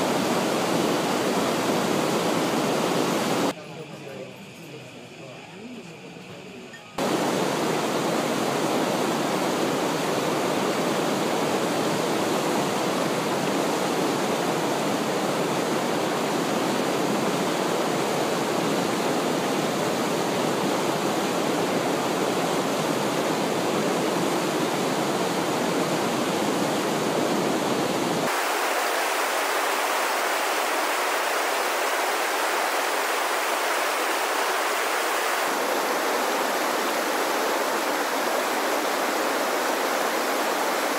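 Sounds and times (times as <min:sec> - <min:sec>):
whitewater rushing: 0:00.0 - 0:03.5, 0:07.0 - 0:40.9.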